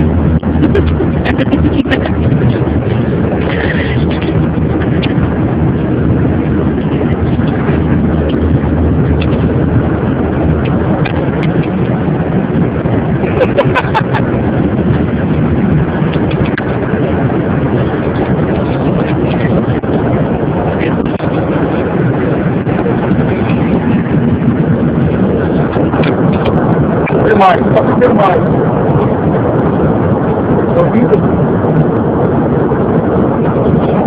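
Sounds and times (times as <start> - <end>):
airplane engines roaring: 0.0 - 34.0
rushing air: 0.0 - 34.0.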